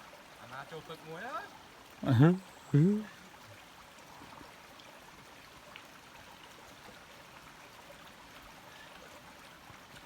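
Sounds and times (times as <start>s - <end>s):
stream flowing: 0.0s - 10.0s.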